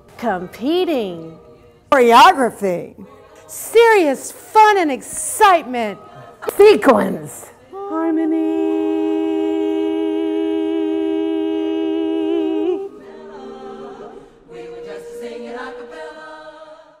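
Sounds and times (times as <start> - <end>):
women's chorus singing a cappella: 1.2 - 17.0.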